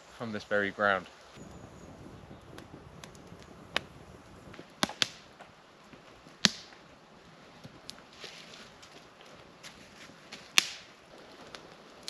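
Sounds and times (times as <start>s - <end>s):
campfire crackling: 0.0s - 12.0s
fire popping: 0.5s - 12.0s.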